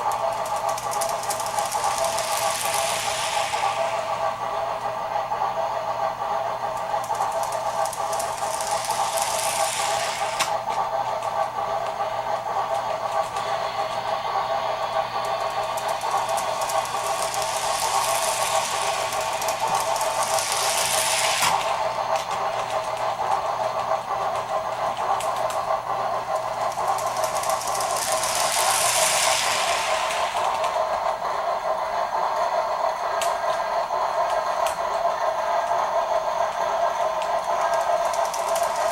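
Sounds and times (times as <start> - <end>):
steam hiss: 0.0 - 10.8, 11.6 - 23.0, 26.4 - 38.9
model train mechanical clatter: 0.0 - 38.9
steam engine sounds: 0.0 - 38.9.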